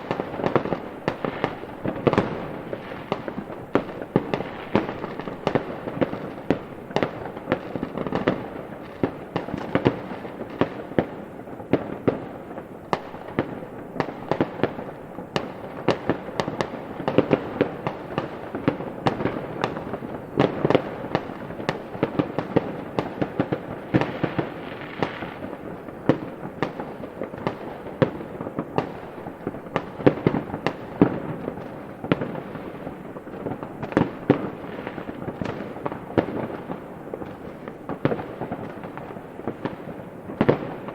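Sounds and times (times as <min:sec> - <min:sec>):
fireworks bangs and pops: 0:00.0 - 0:40.9.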